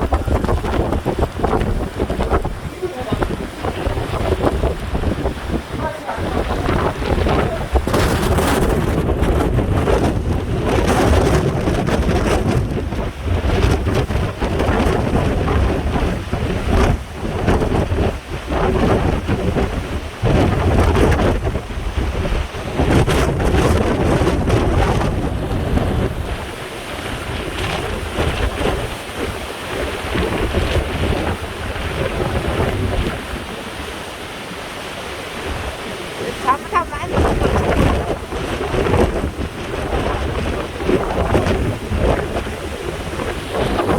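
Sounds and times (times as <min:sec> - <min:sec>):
crashing storm waves: 0:00.0 - 0:43.9
wind buffeting microphone: 0:00.0 - 0:43.9.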